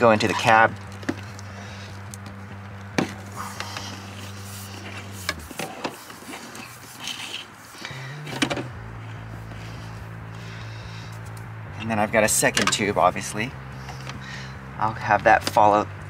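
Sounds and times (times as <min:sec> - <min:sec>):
tubing scraping and rustling: 0:00.0 - 0:14.3
low steady hum: 0:00.0 - 0:16.0.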